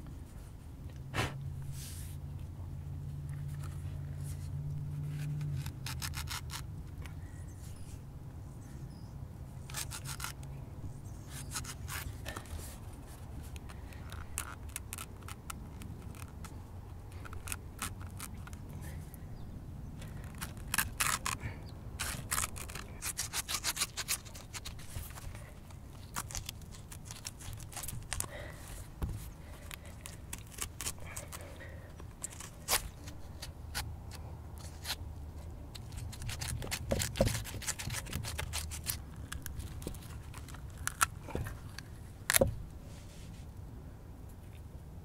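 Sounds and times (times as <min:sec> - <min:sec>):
blade scraping squash skin: 0:03.4 - 0:07.0, 0:09.6 - 0:19.2, 0:20.0 - 0:43.5.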